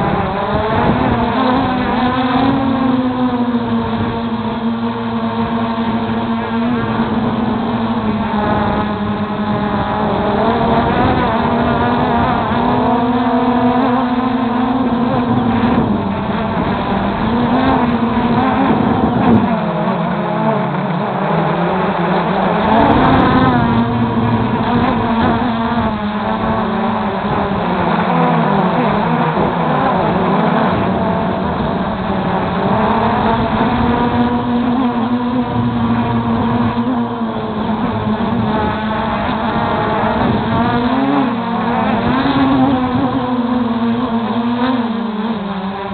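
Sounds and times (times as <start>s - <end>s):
quadcopter propellers buzzing: 0.0s - 45.9s
wind rumbling on microphone: 0.0s - 45.9s.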